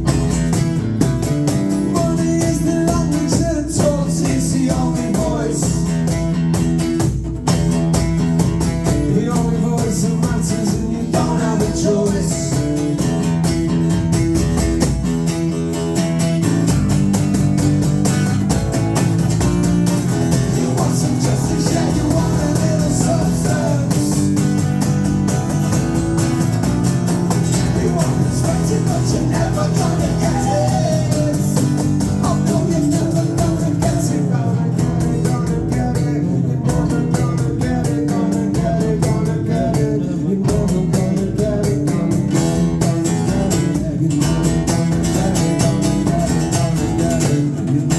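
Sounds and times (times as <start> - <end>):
live rock band playing: 0.0 - 47.9
wavering lead guitar: 0.0 - 47.9.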